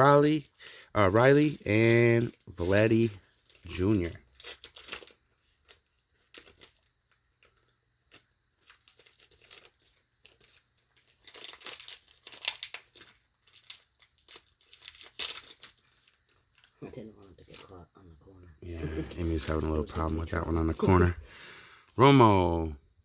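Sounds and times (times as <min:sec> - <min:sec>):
card packaging crinkling: 0:00.0 - 0:18.0, 0:18.6 - 0:22.0.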